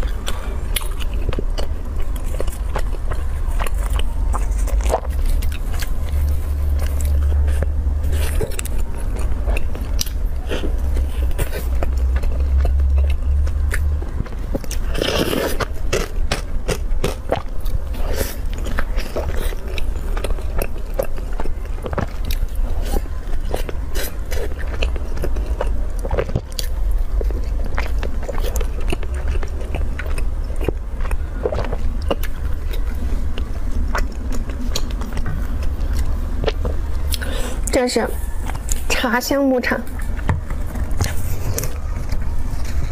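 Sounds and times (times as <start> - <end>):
biting and chewing bread: 0.0 - 39.0, 39.6 - 42.9
steady low hum: 0.0 - 42.9.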